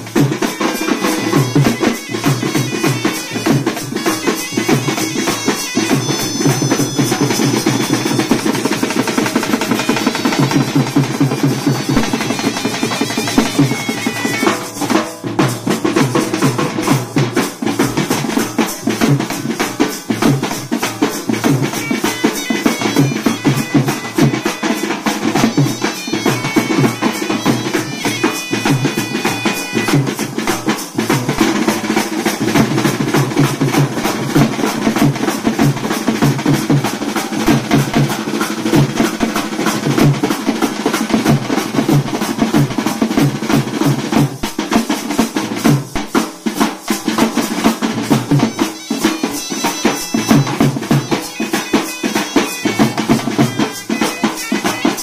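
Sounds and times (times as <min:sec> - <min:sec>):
hand cymbals clashing: 0:00.0 - 0:55.0
side drums played with sticks: 0:00.0 - 0:55.0.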